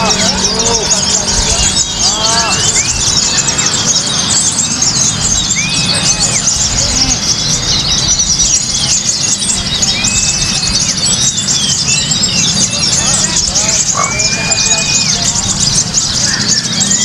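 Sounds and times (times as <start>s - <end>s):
bird whistles: 0.0s - 17.0s
low background rumble: 0.0s - 17.0s
songbirds chirping and trilling: 0.0s - 17.0s.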